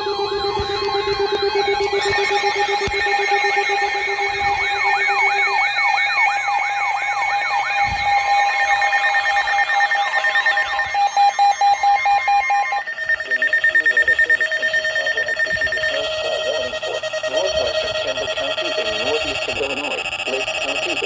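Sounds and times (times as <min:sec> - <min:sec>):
pulsing alarm tone: 0:00.0 - 0:21.0
rapid steady tone beeps: 0:00.0 - 0:21.0
siren-like electronic wails: 0:00.0 - 0:21.0.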